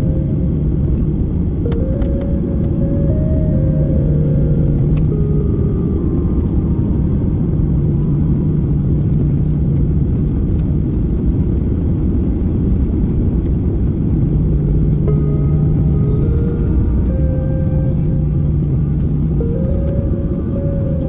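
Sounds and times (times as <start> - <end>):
airplane cabin rumble: 0.0 - 21.0
constant low hum: 0.0 - 21.0.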